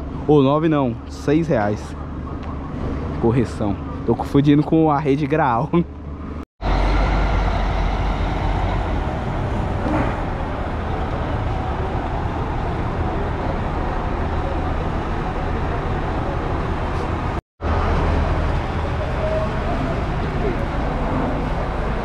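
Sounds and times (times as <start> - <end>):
bus engine rumble: 0.0 - 22.0
road noise: 0.0 - 22.0.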